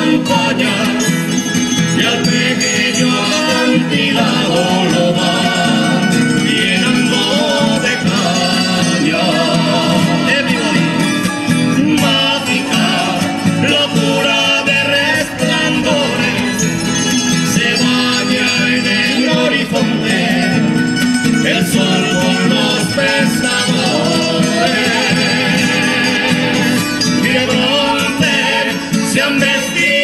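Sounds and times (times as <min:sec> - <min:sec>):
men and women singing in harmony: 0:00.0 - 0:30.0
plucked lute: 0:00.0 - 0:30.0
strummed acoustic guitars: 0:00.0 - 0:30.0.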